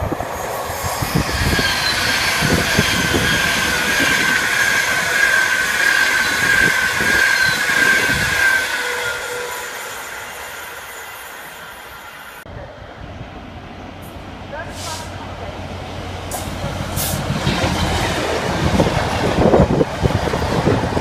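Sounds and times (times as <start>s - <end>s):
high train whine: 0.0s - 21.0s.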